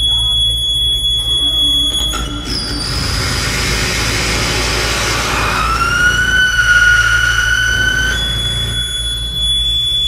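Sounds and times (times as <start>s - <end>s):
harsh electronic noise music: 0.0s - 10.0s
squealing tone sliding upward: 1.5s - 10.0s.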